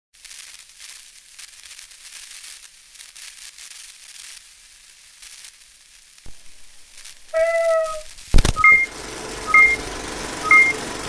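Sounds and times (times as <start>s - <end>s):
television static hiss: 0.2s - 11.0s.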